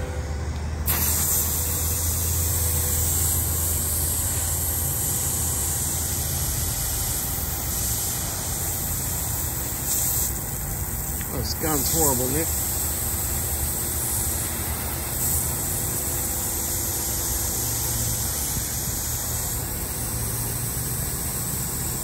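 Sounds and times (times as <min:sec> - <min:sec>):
water spray gun hissing: 0:00.8 - 0:22.0.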